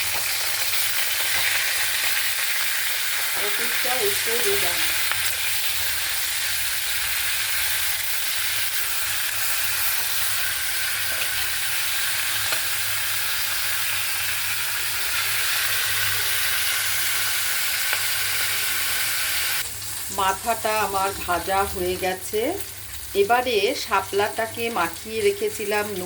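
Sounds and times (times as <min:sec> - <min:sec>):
fish frying in hot oil: 0:00.0 - 0:26.0.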